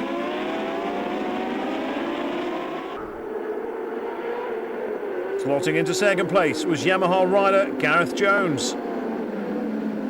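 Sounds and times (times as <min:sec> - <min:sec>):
racing motorcycle engines revving: 0:00.0 - 0:10.0.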